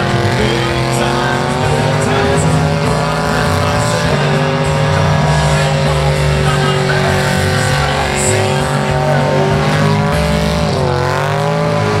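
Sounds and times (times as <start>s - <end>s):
background music: 0.0s - 12.0s
engine held at high revs: 0.0s - 12.0s.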